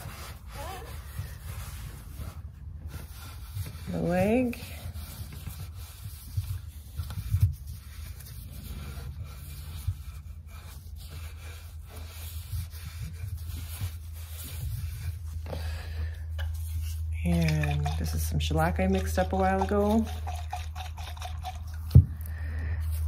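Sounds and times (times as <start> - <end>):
cloth rubbing wood: 0.0 - 20.2.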